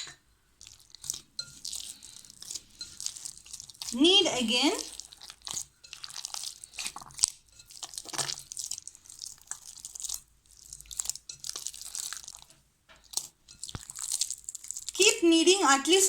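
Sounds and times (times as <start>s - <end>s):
hands kneading wet dough: 0.6s - 16.0s.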